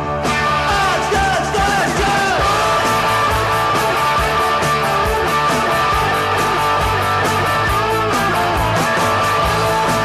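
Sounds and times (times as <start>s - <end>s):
electric guitar: 0.0s - 10.0s
steady drum beat: 0.0s - 10.0s.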